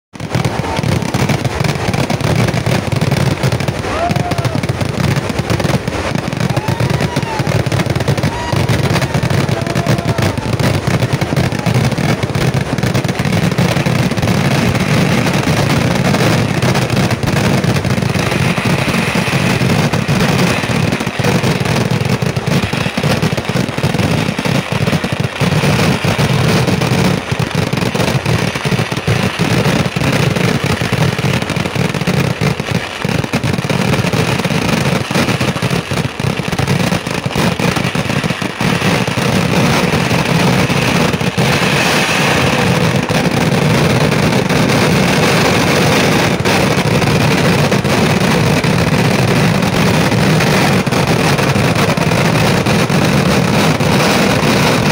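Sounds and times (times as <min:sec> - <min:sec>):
firecrackers bursting rapidly: 0:00.1 - 0:54.9.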